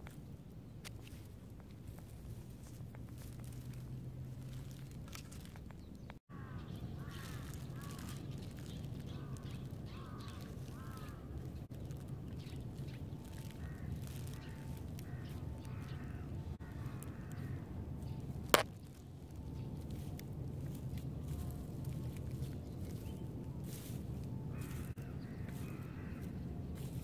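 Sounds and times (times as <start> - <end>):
low rumble of wind: 0.0 - 27.0
distant bird calling: 5.4 - 27.0.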